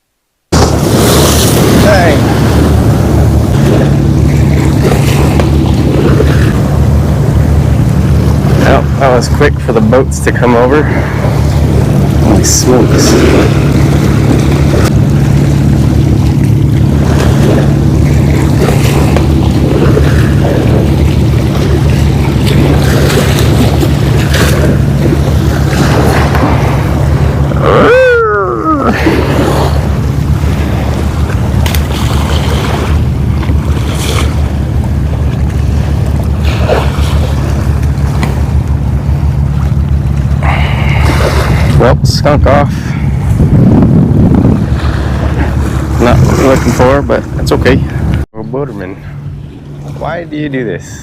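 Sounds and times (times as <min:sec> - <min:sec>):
motorboat engine droning: 0:00.0 - 0:51.0
surf washing: 0:00.5 - 0:51.0
wind on microphone: 0:00.5 - 0:51.0.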